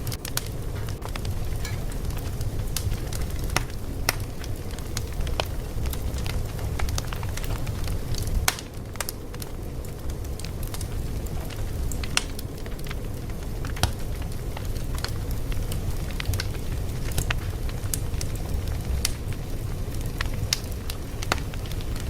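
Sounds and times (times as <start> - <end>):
fire popping and snapping: 0.0 - 22.0
low rumble of flames: 0.0 - 22.0.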